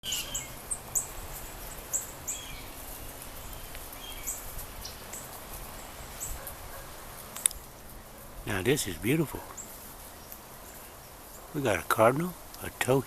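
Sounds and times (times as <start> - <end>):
low outdoor background noise: 0.0 - 13.0
songbirds chirping: 0.0 - 13.0.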